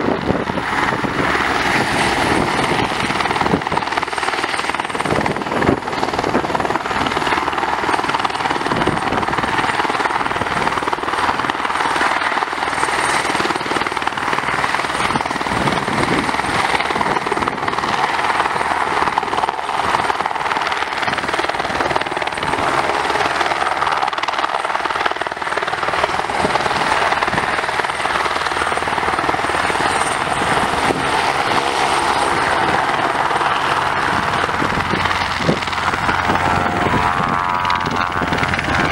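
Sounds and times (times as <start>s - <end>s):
helicopter rotor running: 0.0s - 38.9s
high turbine whine: 0.0s - 38.9s.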